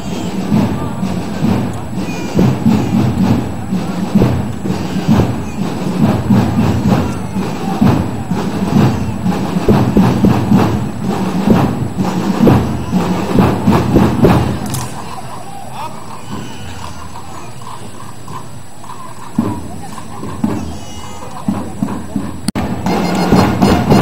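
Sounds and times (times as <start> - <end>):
heavy drum thuds: 0.0 - 14.8, 19.3 - 24.0
crowd noise: 0.0 - 24.0
marching music: 0.0 - 24.0.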